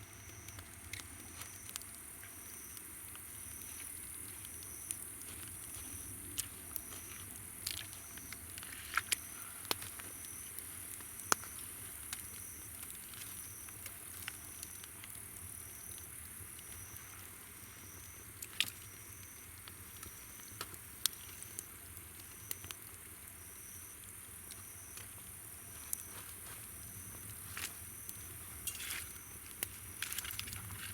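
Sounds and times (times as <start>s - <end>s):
insect chirping: 0.0s - 0.6s, 1.3s - 14.9s, 15.5s - 21.7s, 23.4s - 30.9s
campfire wood crackling and popping: 0.0s - 30.9s.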